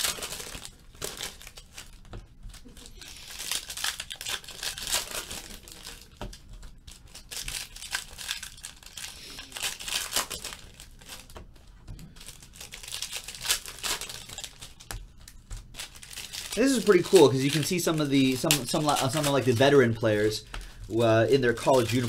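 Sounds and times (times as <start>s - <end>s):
wrappers torn open and crinkled: 0.0s - 11.3s, 12.1s - 22.0s.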